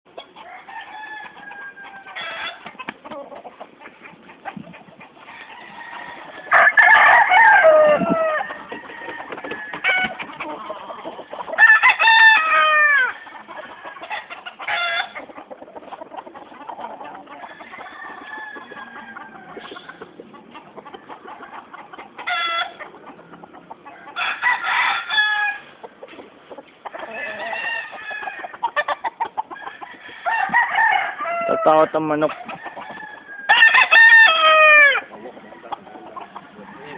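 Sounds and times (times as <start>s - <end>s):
roosters crowing and clucking: 0.1s - 36.9s.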